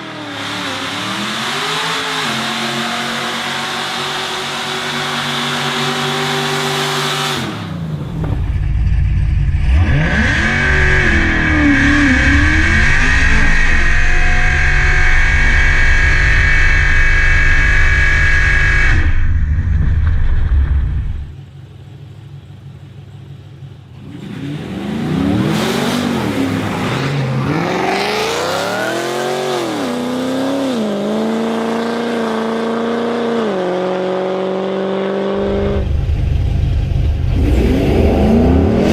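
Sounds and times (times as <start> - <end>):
race car engines revving: 0.0 - 21.4, 23.1 - 38.9.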